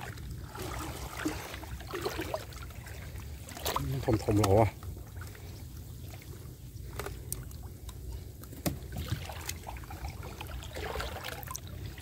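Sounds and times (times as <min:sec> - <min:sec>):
water sloshing and lapping: 0:00.0 - 0:12.0.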